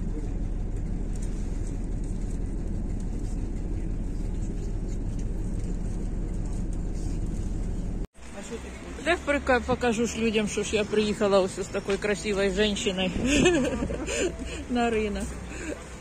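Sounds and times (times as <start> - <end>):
bus engine rumble: 0.0 - 16.0
road noise: 0.0 - 16.0.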